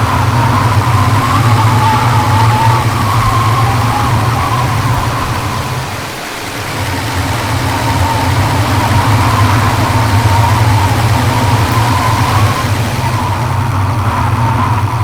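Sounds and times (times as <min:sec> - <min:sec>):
car engine and road noise drone: 0:00.0 - 0:15.0
faint whine: 0:00.0 - 0:15.0.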